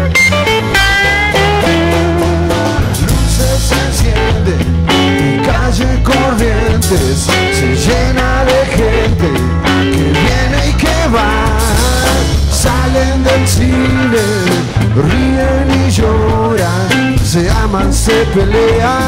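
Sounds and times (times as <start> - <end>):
wavering lead melody: 0.0 - 16.5
acoustic guitars: 0.0 - 19.0
bass guitar: 0.0 - 19.0
drum kit: 0.0 - 19.0.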